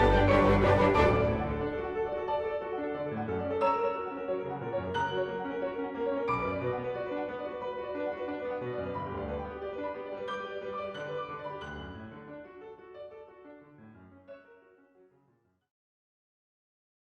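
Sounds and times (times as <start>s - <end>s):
piano music: 0.0s - 15.1s.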